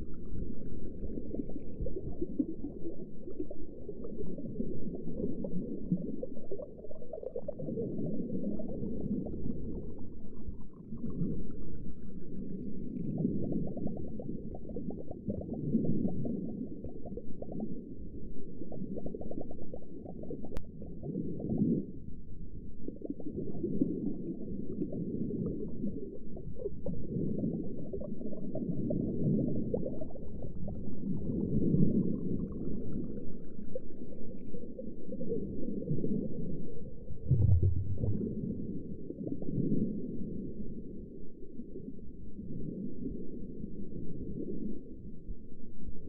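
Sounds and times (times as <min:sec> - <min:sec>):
underwater rumble and gurgling: 0:00.0 - 0:46.0.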